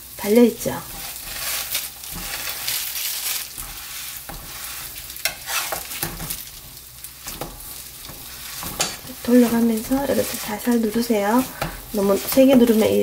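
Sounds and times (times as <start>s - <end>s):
pancakes sizzling in oil: 0.0s - 13.0s
spatula scraping and tapping: 0.8s - 13.0s.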